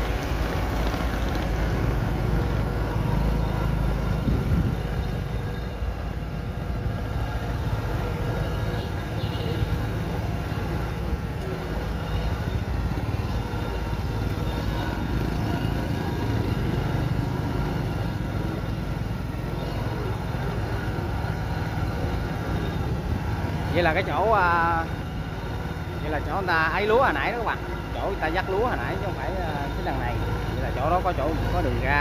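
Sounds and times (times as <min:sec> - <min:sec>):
combine harvester engine running: 0:00.0 - 0:32.0.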